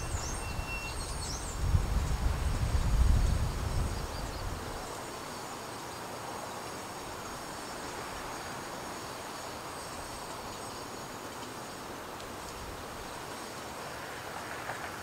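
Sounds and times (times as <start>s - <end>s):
continuous mechanical hiss: 0.0s - 15.0s.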